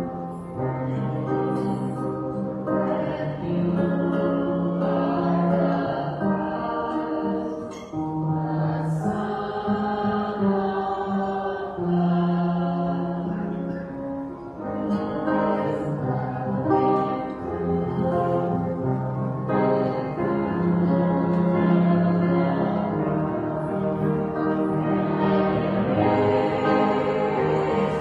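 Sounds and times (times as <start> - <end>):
musical accompaniment: 0.0 - 28.0
slow hymn singing: 0.0 - 28.0.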